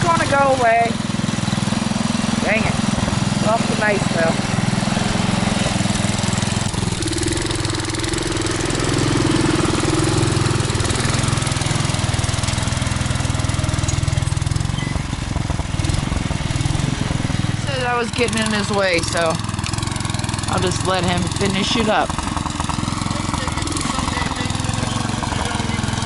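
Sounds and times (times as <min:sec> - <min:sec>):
garden tractor engine running: 0:00.0 - 0:26.0
higher engine tone: 0:00.0 - 0:26.0.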